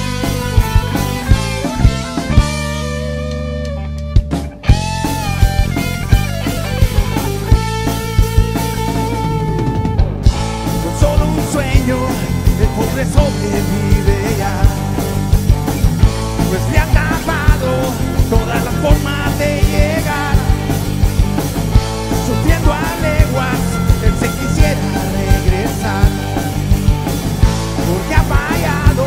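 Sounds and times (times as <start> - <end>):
drum kit steady beat: 0.0 - 29.0
electric guitar with bent notes: 0.0 - 29.0.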